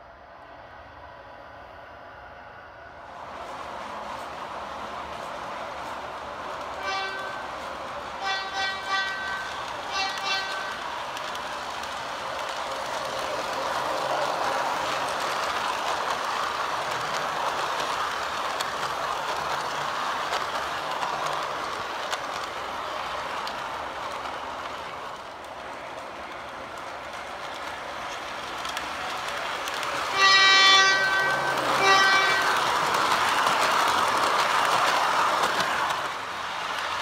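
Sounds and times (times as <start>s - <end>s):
model train rolling on track: 0.9s - 37.0s.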